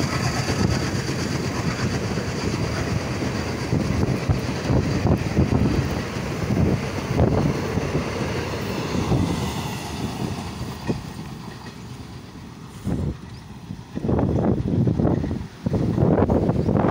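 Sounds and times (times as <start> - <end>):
train coaches rumbling past: 0.0 - 16.9.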